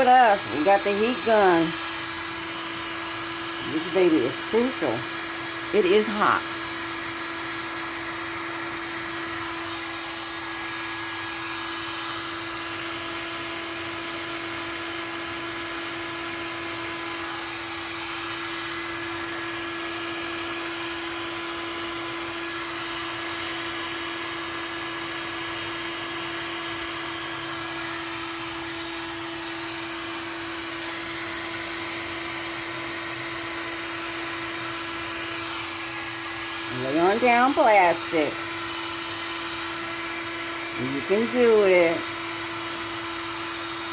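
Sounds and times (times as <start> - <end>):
heat gun fan humming and whining: 0.0 - 43.9.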